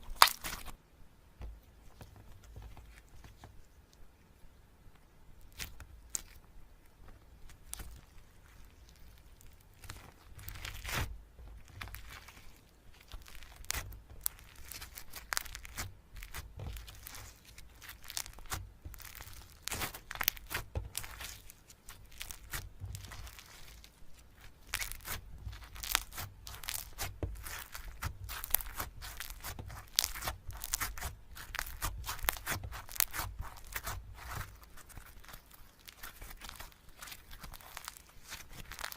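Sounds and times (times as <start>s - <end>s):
slime squeezed by hand crackling: 0.0s - 0.8s, 7.4s - 38.9s.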